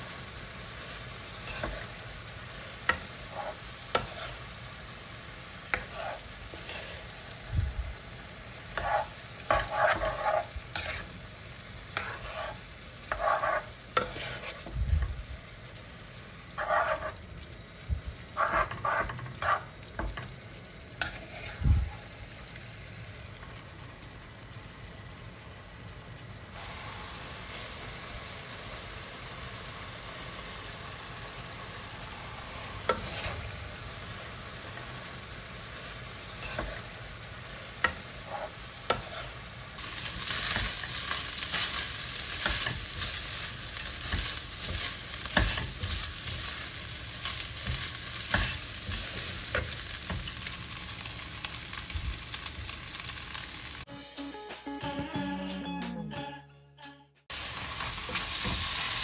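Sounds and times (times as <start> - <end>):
sizzling hiss: 0.0 - 53.9, 57.3 - 59.0.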